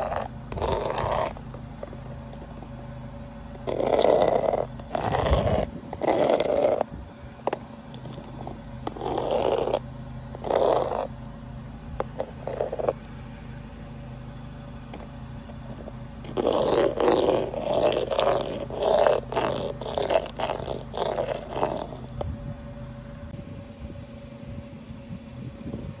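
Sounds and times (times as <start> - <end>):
rough car engine pulses: 0.0 - 23.4
car engine idling: 0.0 - 26.0.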